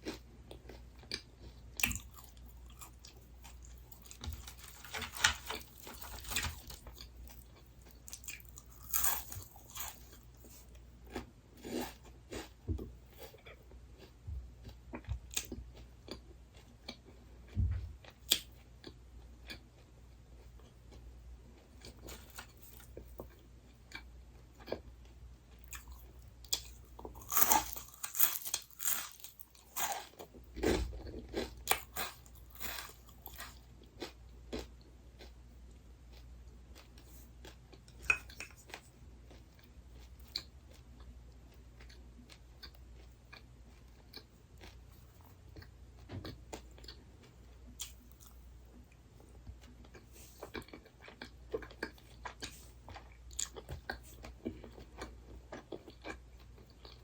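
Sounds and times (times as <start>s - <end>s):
crunchy food chewing: 0.0s - 57.0s.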